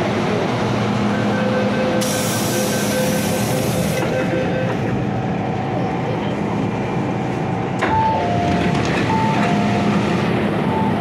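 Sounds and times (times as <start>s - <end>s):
crowd noise on platform: 0.0s - 11.0s.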